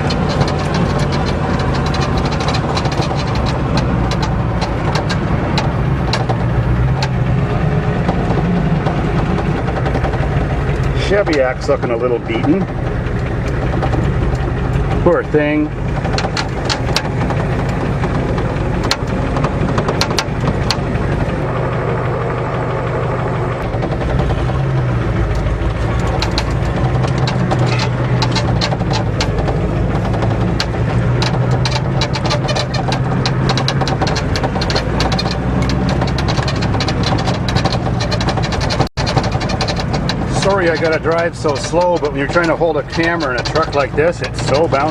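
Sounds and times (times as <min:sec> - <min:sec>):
cab clicks and rattles: 0:00.0 - 0:21.6, 0:23.5 - 0:44.9
diesel truck engine running: 0:00.0 - 0:44.9.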